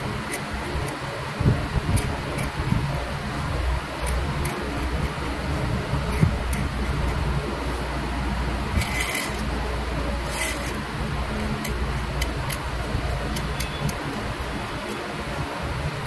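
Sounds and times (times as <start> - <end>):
low hum: 0.0 - 16.0
metal tool scratching lacquer: 1.7 - 8.0, 8.7 - 16.0.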